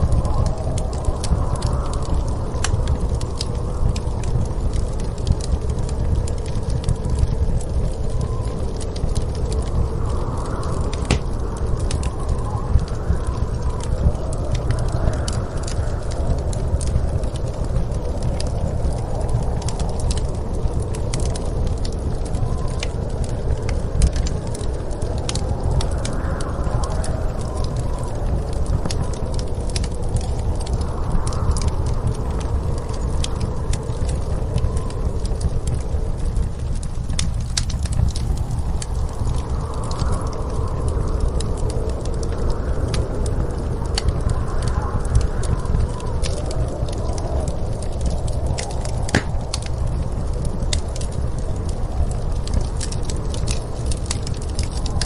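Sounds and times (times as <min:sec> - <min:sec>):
storm wind rumble: 0:00.0 - 0:55.0
wood fire crackling: 0:00.0 - 0:55.0.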